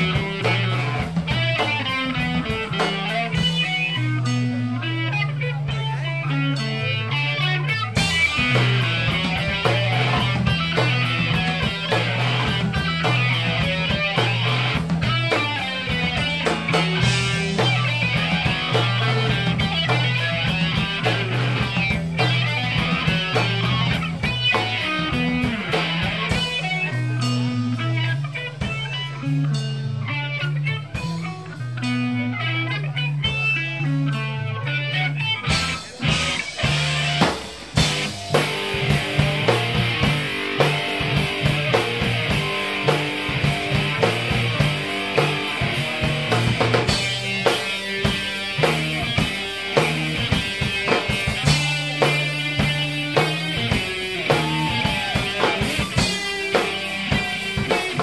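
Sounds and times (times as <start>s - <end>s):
bass line: 0.0s - 58.0s
drum kit with cymbals: 0.0s - 58.0s
guitars: 0.0s - 58.0s.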